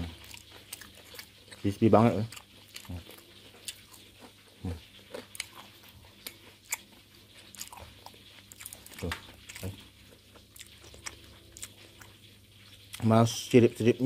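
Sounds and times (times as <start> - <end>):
chewing crisp fried fish: 0.0 - 14.0.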